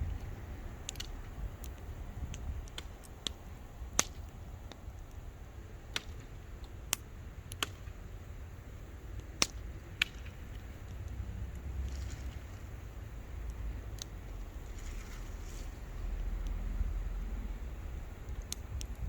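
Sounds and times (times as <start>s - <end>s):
campfire crackling: 0.0s - 19.0s
faint low rumble: 0.0s - 19.0s.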